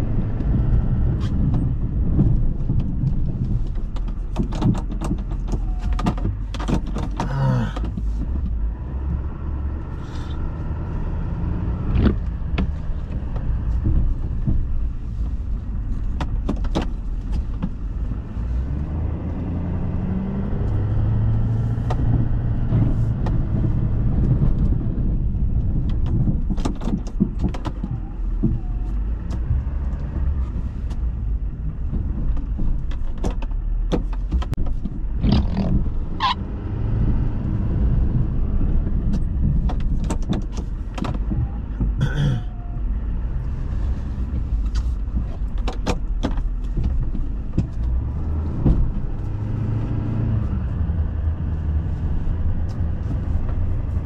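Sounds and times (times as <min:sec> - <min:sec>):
truck engine under varying throttle: 0:00.0 - 0:54.0
sharp clicks and knocks: 0:00.4 - 0:09.4, 0:11.8 - 0:18.1, 0:20.7 - 0:36.4, 0:37.0 - 0:42.3, 0:44.2 - 0:51.3.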